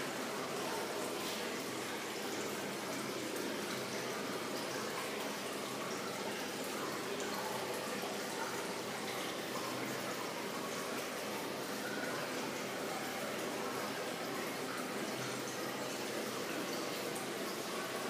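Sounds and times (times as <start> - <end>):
water falling and splashing: 0.0 - 18.0.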